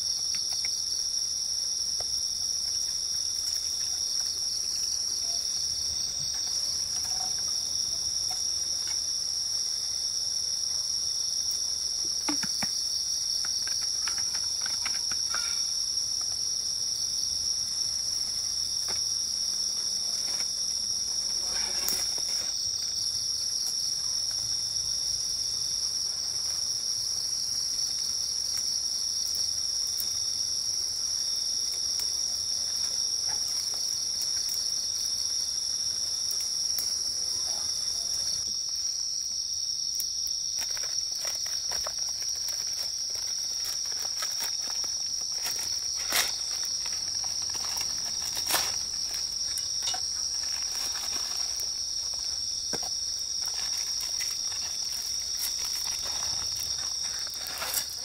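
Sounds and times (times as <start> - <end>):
night insects chorus: 0.0 - 58.0.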